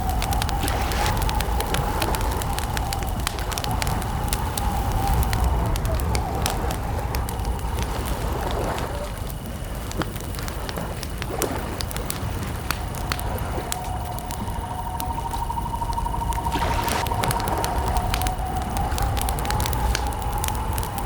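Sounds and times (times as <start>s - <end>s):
campfire crackling and popping: 0.0s - 21.0s
crickets chirring: 0.0s - 21.0s.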